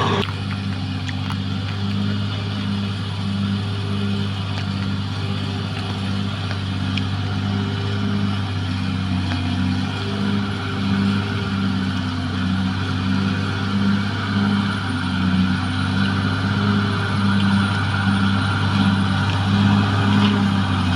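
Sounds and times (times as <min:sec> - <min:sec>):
bulldozer diesel engine running: 0:00.0 - 0:20.9.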